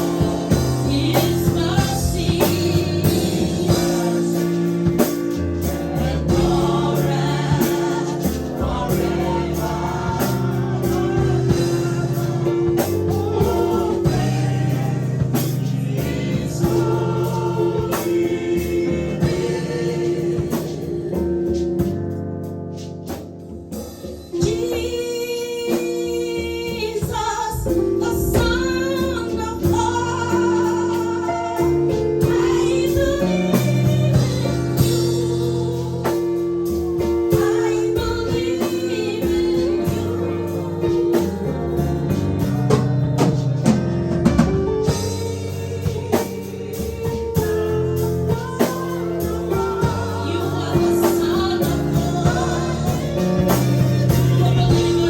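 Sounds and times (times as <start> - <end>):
gospel singing: 0.0 - 22.7, 24.3 - 55.0
band with drums: 0.0 - 55.0.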